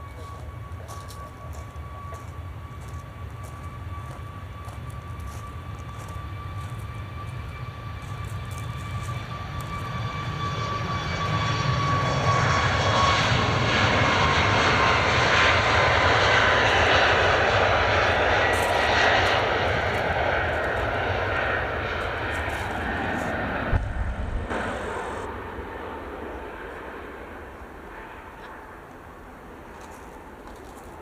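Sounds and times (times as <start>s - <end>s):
high engine whine: 0.0s - 30.5s
jet engines roaring: 0.0s - 30.5s.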